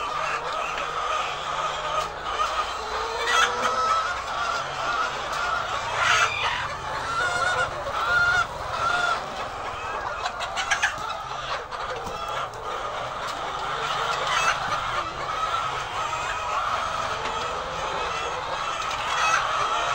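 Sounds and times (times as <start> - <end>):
hens clucking and squawking: 0.0 - 19.9.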